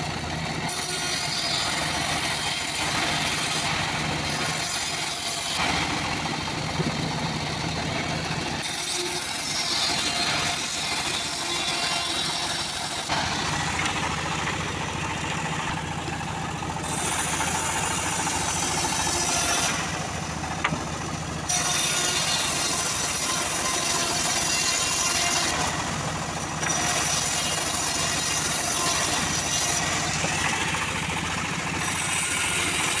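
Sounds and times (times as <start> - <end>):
bandsaw mill sawing log: 0.0 - 33.0.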